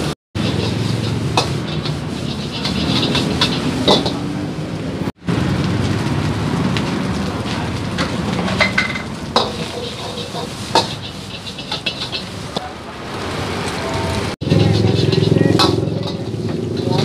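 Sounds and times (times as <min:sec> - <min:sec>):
chicken deep-frying in oil: 0:00.0 - 0:17.0
oil popping and crackling: 0:00.3 - 0:04.4, 0:05.2 - 0:17.0.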